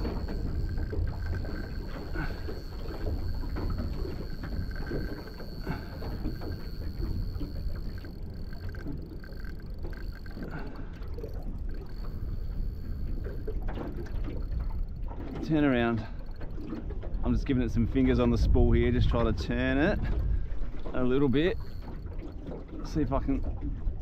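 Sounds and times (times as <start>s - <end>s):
water lapping against boat hull: 0.0s - 24.0s
wind buffeting microphone: 0.0s - 24.0s.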